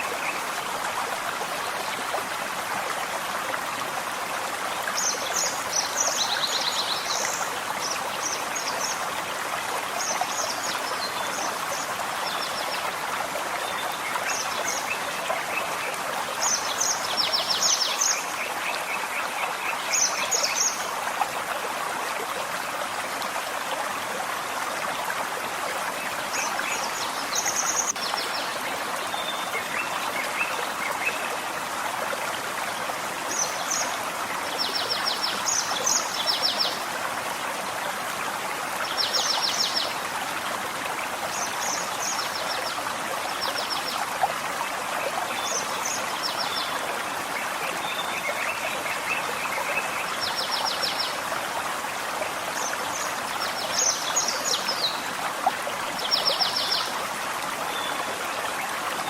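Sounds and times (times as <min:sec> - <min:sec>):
forest stream running: 0:00.0 - 0:59.0.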